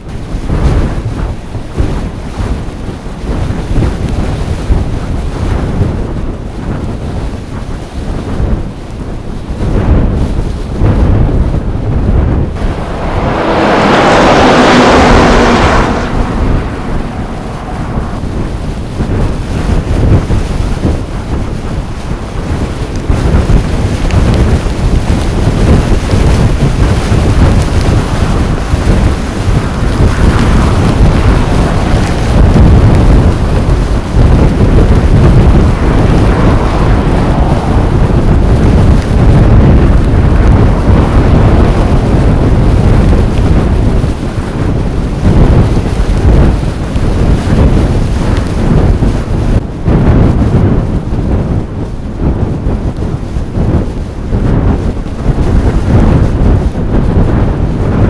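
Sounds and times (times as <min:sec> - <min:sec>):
wind blowing against microphone: 0:00.0 - 0:58.0.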